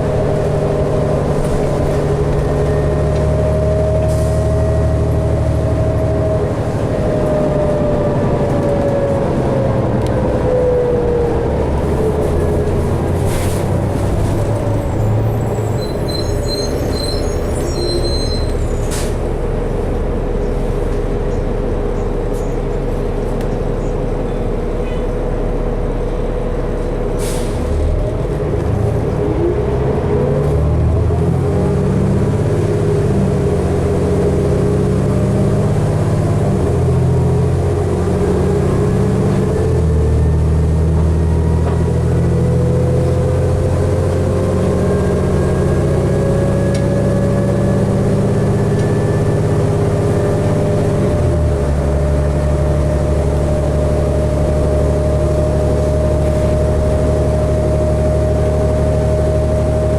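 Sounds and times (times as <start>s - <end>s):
bus engine humming: 0.0s - 59.9s
rising engine whine: 0.0s - 59.9s.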